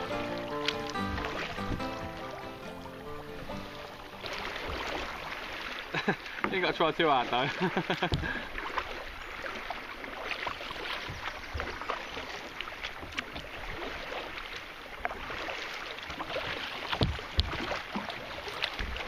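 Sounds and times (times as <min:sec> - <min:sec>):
paddle strokes splashing in water: 0:00.0 - 0:19.0.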